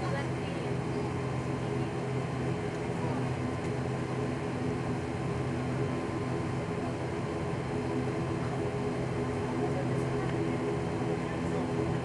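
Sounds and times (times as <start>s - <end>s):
turboprop engine drone in cabin: 0.0s - 12.0s.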